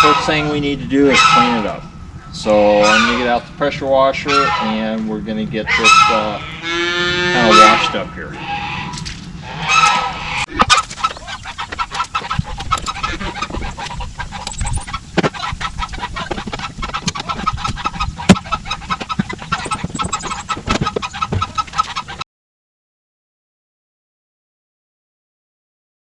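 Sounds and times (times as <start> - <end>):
poultry clucking and honking: 0.0 - 22.2.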